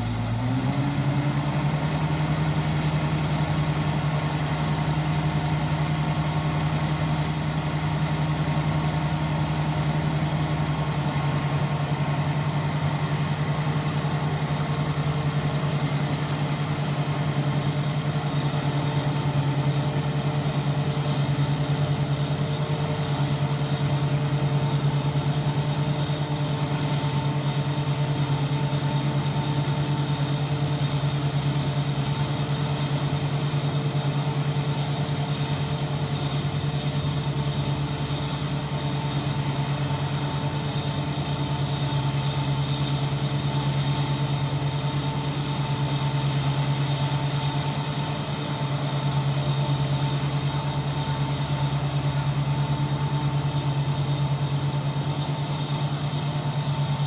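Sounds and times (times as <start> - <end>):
harvester engine droning: 0.0 - 57.0.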